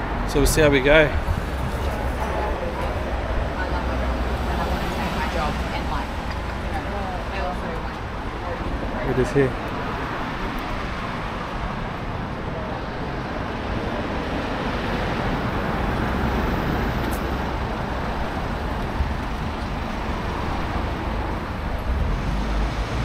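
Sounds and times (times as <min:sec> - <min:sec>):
road vehicles rumbling past: 0:00.0 - 0:23.0.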